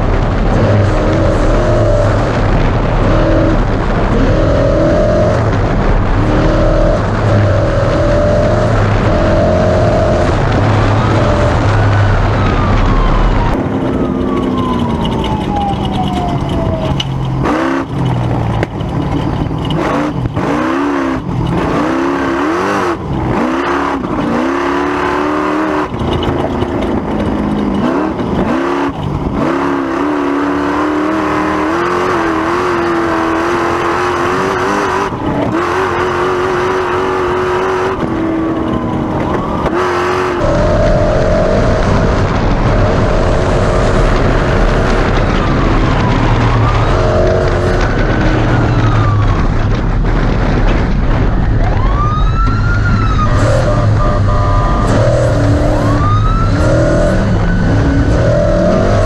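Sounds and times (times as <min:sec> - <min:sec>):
falling whine: 0:00.0 - 0:59.0
race truck engine revving: 0:00.0 - 0:59.0.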